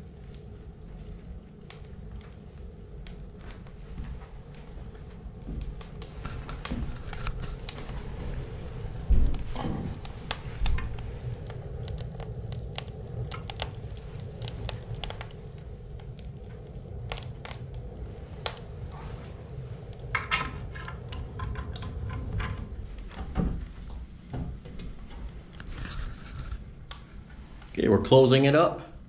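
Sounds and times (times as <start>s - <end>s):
low steady rumble: 0.0s - 29.0s
wood fire crackling and popping: 0.0s - 29.0s.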